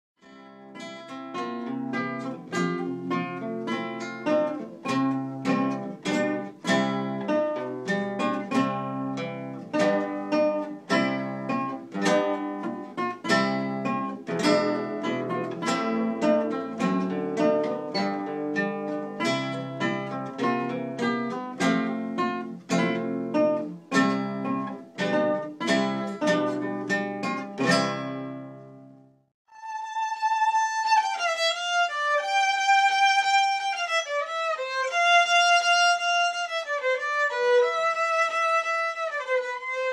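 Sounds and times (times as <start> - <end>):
fingerpicked nylon-string guitar: 0.2 - 29.2, 30.0 - 39.9.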